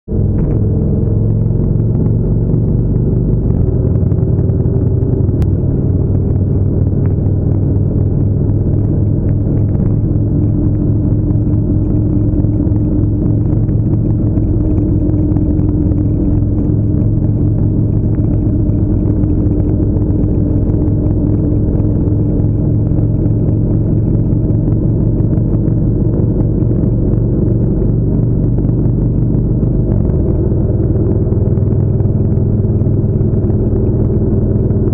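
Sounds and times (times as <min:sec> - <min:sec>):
motorcycle engine cruising: 0:00.1 - 0:34.9.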